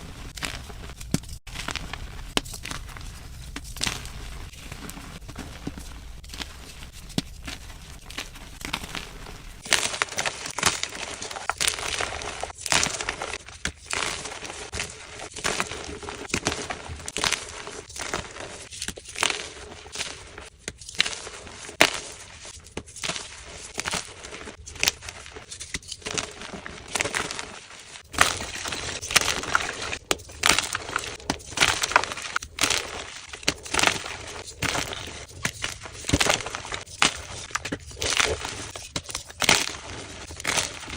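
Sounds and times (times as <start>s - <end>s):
chalk blocks crunching: 0.0s - 40.9s.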